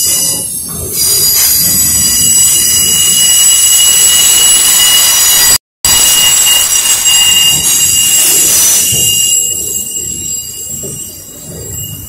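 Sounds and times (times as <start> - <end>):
freight train rolling past: 0.0 - 12.0
steel wheels squealing: 0.0 - 12.0.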